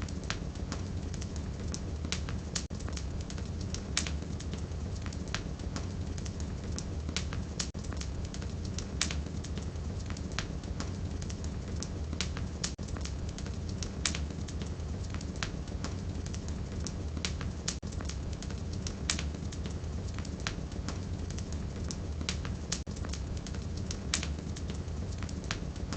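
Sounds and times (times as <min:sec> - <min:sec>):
fire rumbling: 0:00.0 - 0:25.9
firewood crackling and popping: 0:00.0 - 0:25.9.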